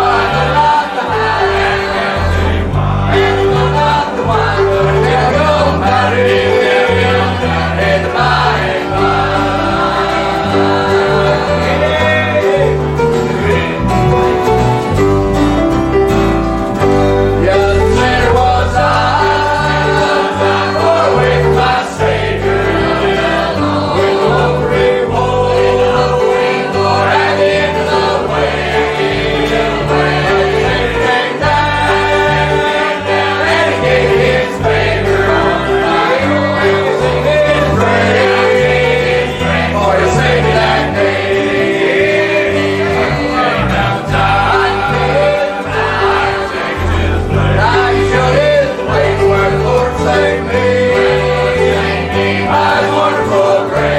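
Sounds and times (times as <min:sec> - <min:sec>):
choir singing: 0:00.0 - 0:53.9
instrumental accompaniment: 0:00.0 - 0:53.9.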